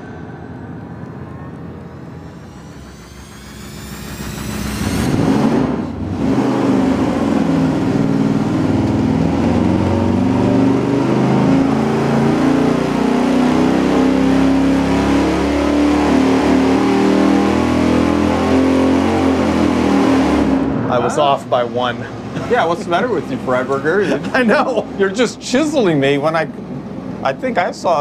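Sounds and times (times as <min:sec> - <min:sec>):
engine revving at full throttle: 0:01.8 - 0:25.9.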